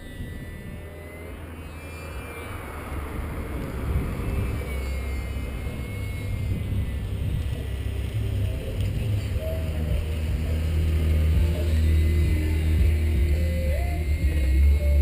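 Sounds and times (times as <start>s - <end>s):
model plane motor whining overhead: 0.0s - 15.0s
wind rumble on microphone: 0.0s - 15.0s.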